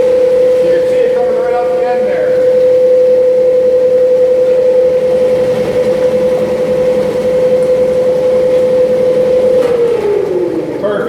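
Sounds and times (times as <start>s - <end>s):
food grinder humming: 0.0s - 11.0s.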